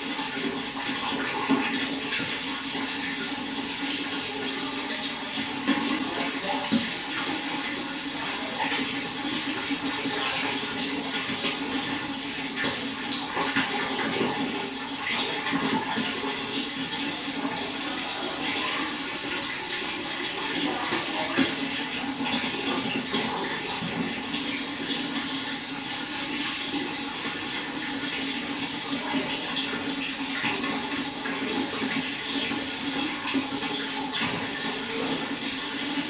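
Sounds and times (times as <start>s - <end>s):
running water splashing: 0.0s - 36.0s.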